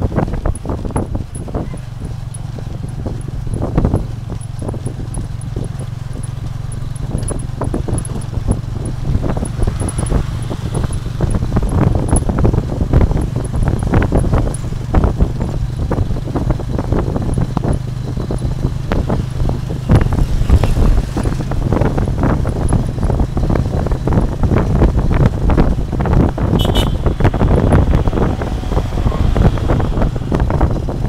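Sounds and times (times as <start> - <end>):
carriage rattling and knocking: 0.0 - 25.6
motorbike engine humming: 0.0 - 31.0
wind on microphone: 0.0 - 31.0.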